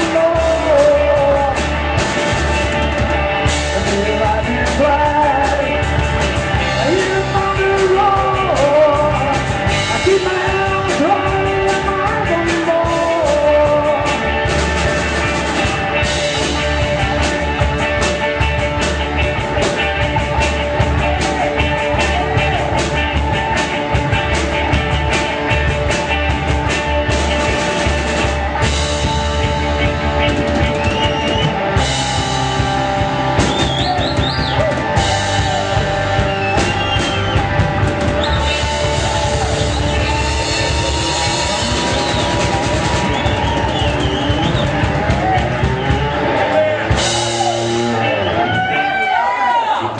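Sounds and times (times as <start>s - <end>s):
melodic lead line: 0.0s - 49.0s
rock band playing: 0.0s - 49.9s.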